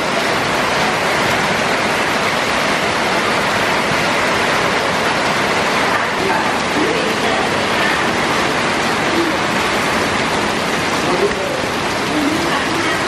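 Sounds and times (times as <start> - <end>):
heavy rain on flooded street: 0.0 - 13.0.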